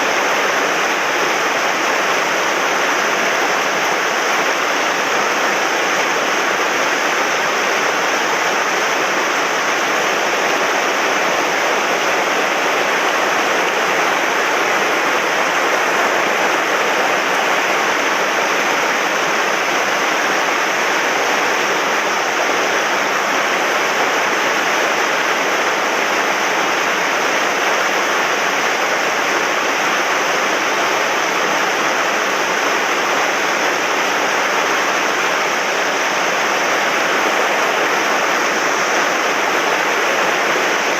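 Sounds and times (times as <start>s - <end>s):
mountain stream rushing over rocks: 0.0s - 40.9s.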